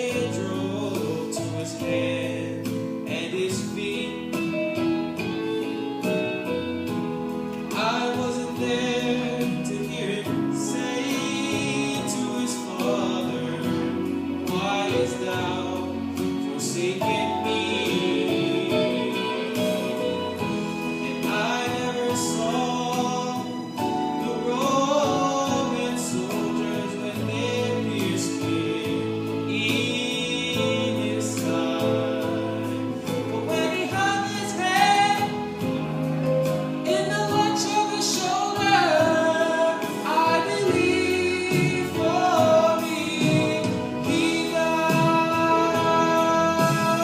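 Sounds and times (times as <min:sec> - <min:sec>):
male vocal group singing gospel: 0:00.0 - 0:47.0.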